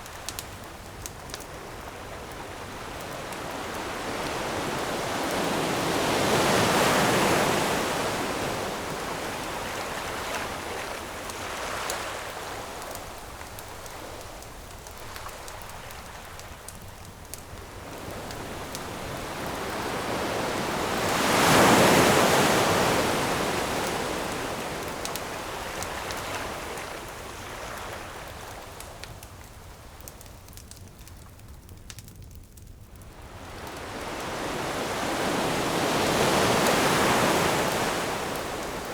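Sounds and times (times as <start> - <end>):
faint campfire crackles: 0.0 - 38.9
ocean waves breaking on shore: 1.6 - 28.8, 33.2 - 38.9.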